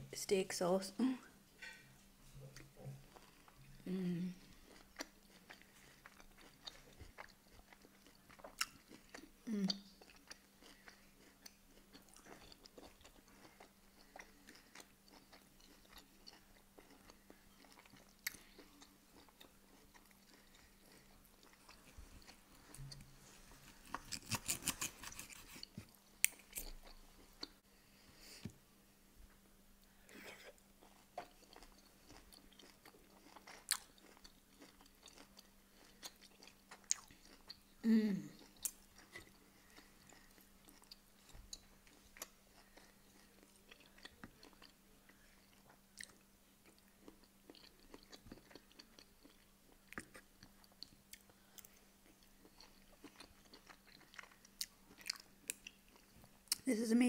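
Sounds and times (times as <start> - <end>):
chewing steak: 2.4 - 3.7, 4.4 - 27.6, 30.1 - 37.7, 38.4 - 56.6.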